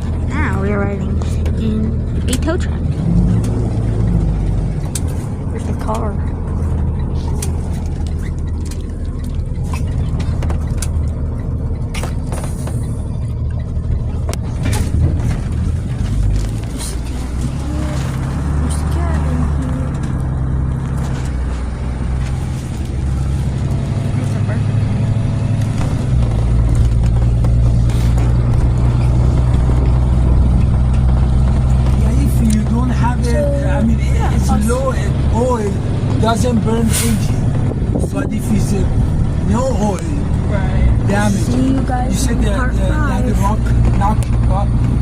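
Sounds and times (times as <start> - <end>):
truck road and engine rumble: 0.0 - 45.0.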